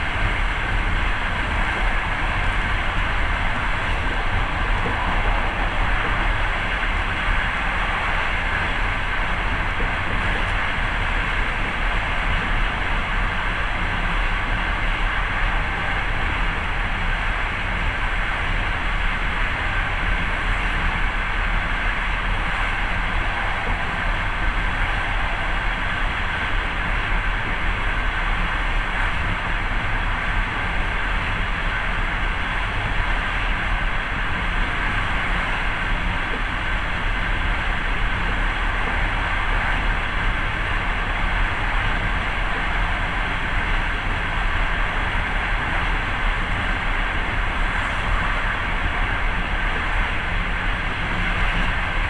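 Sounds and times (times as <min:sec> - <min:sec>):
train running noise: 0:00.0 - 0:52.0.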